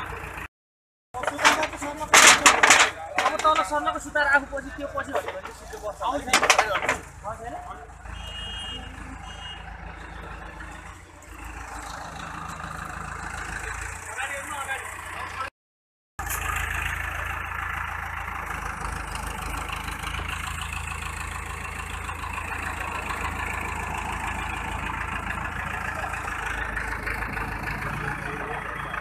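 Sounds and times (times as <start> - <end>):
diesel engine humming under load: 0.0 - 0.5, 1.2 - 15.5, 16.2 - 29.0.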